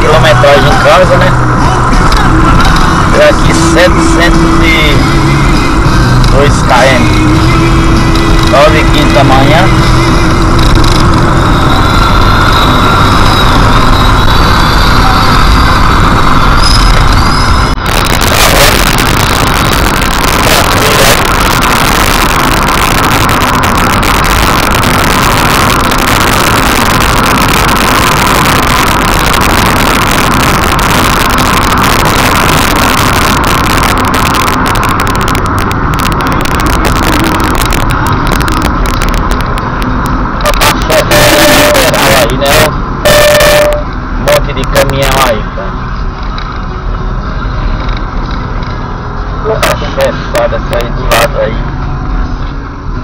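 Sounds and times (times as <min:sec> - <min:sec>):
car engine: 0:00.0 - 0:53.0
rapid crackling: 0:00.0 - 0:53.0
road tyre and wind noise: 0:00.0 - 0:53.0.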